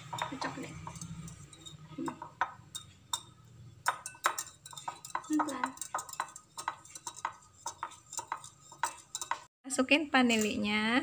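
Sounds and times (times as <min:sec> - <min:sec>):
utensil clinking against glass bowl: 0:00.0 - 0:09.5, 0:10.3 - 0:10.7.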